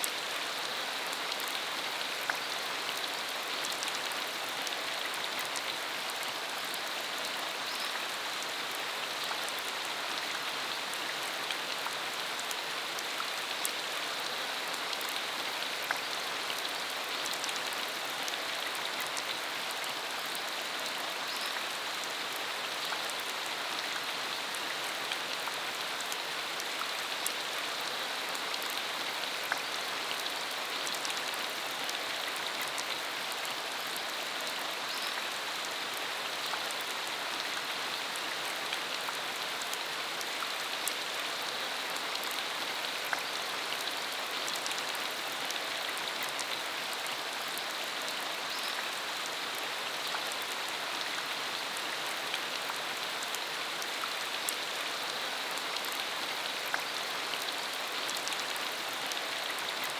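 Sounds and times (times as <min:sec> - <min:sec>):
rain falling on dirt road: 0:00.0 - 0:59.9.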